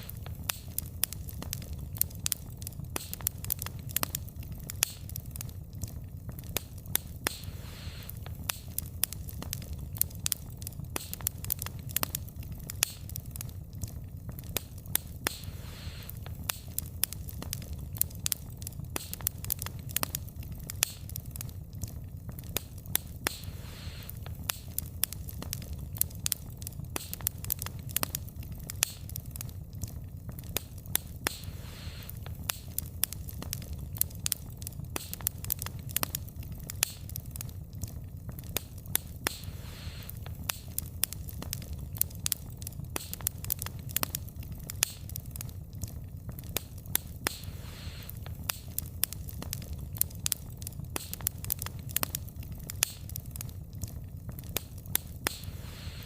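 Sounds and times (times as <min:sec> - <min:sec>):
soft hissing: 0:00.0 - 0:37.6, 0:38.2 - 0:45.6, 0:46.4 - 0:53.5, 0:54.5 - 0:56.0
wood fire crackling: 0:00.0 - 0:56.0.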